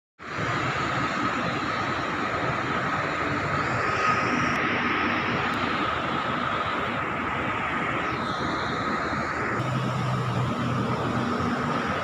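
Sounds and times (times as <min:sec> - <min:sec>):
high whine: 0:00.2 - 0:12.0
rushing mechanical noise: 0:00.2 - 0:12.0.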